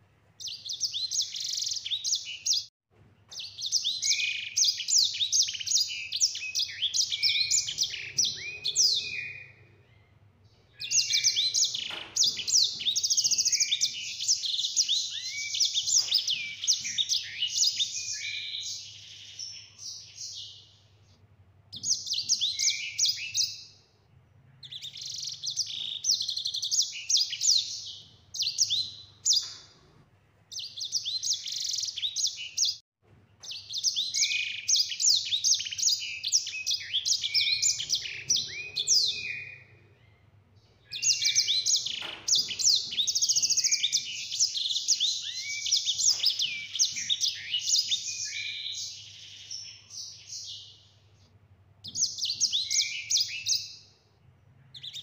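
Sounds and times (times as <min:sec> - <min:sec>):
finch singing: 0:00.4 - 0:02.7, 0:03.3 - 0:20.9, 0:21.7 - 0:32.8, 0:33.4 - 0:51.0, 0:51.8 - 0:54.0, 0:54.6 - 0:55.0.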